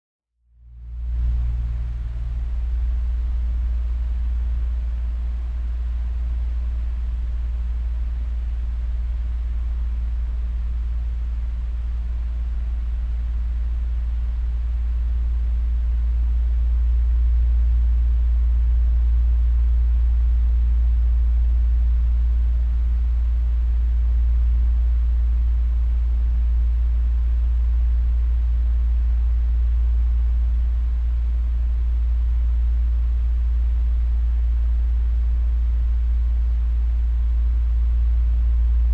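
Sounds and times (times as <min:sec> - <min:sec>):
ventilation fan rumbling: 0:00.6 - 0:38.9.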